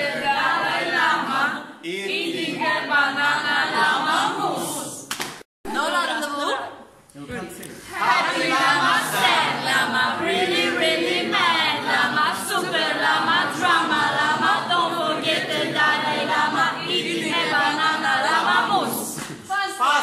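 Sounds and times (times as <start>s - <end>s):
group singing without accompaniment: 0.0s - 5.1s, 7.9s - 20.0s.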